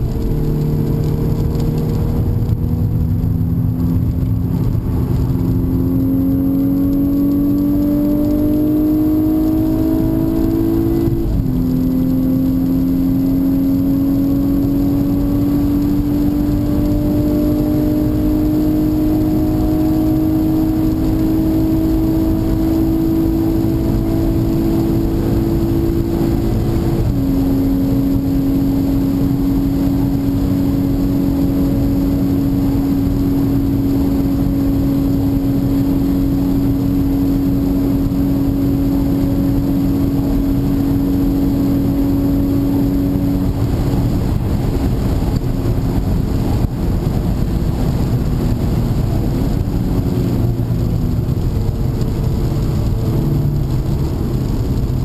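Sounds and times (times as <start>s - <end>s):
car engine accelerating: 0.0s - 55.0s
tyre and wind noise: 0.0s - 55.0s.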